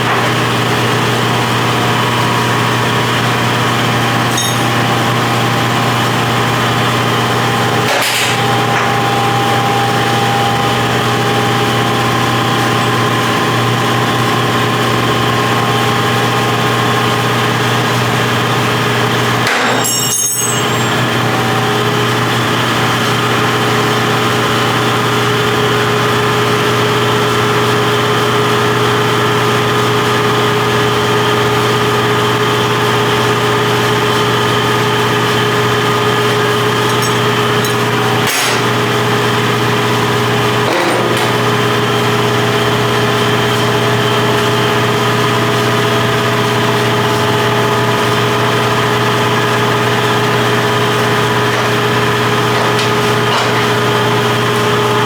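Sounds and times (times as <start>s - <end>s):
engine running with low hum: 0.0s - 55.0s.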